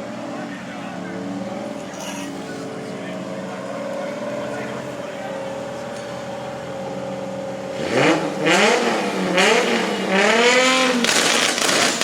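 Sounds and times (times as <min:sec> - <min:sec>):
car engine idling and revving: 0:00.0 - 0:12.0
exhaust popping and crackling: 0:00.0 - 0:12.0.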